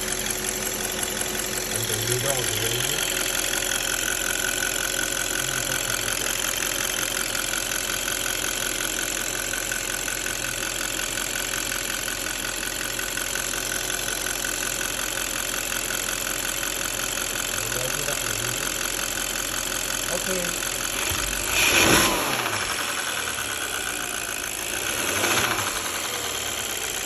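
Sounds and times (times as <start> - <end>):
engine idling with fast ticking: 0.0 - 27.0.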